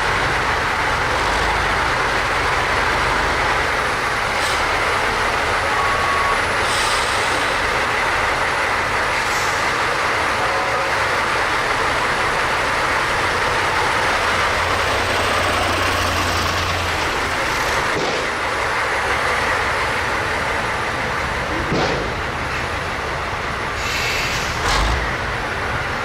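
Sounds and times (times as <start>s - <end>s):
vehicle running noise: 0.0s - 26.0s.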